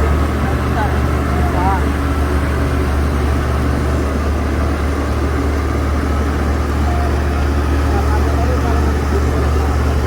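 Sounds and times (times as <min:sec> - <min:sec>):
truck diesel engine humming: 0:00.0 - 0:10.0.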